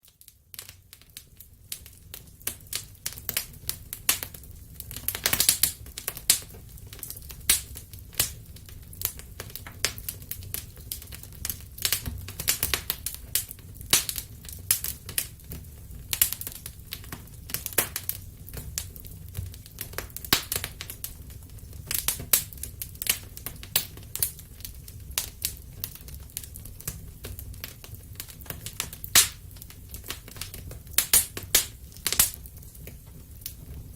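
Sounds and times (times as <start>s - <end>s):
wood fire crackling and popping: 0.0s - 33.9s
low rumble of flames: 0.1s - 33.9s.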